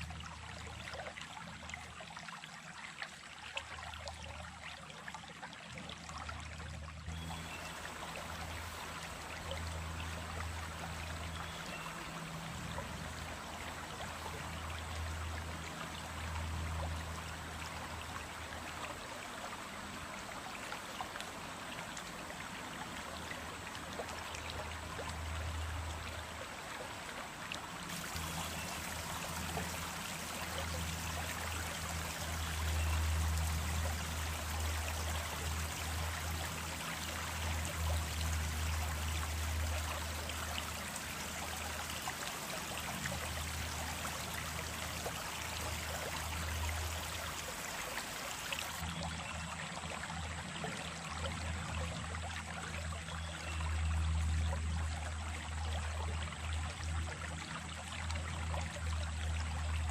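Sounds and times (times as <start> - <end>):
stream burbling over stones: 0.0 - 59.9.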